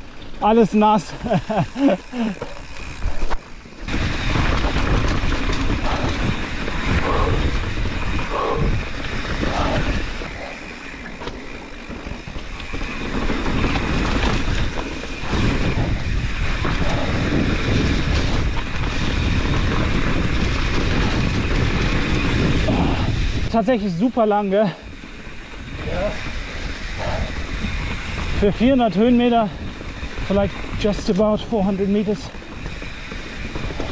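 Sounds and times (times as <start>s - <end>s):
bike rattling: 0.0s - 33.9s
bike tyre noise: 0.0s - 33.9s
wind rushing over microphone: 0.0s - 33.9s.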